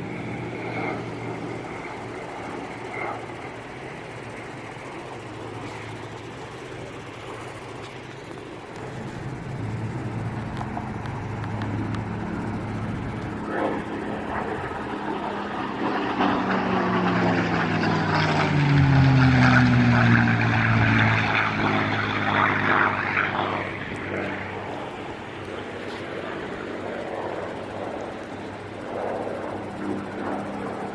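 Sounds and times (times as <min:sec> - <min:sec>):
propeller aircraft flying past: 0:00.0 - 0:30.9.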